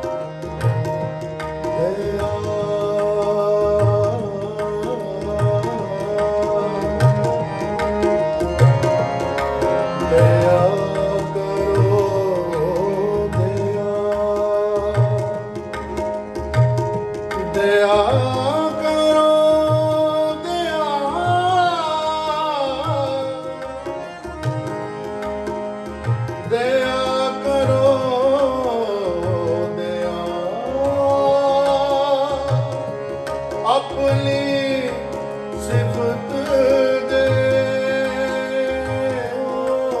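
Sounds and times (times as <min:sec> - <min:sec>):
harmoniums: 0:00.0 - 0:40.0
tabla beat: 0:00.0 - 0:40.0.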